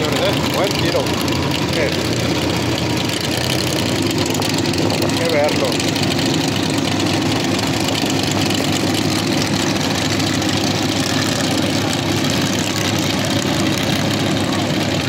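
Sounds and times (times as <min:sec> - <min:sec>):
race car engine idling: 0:00.0 - 0:15.0.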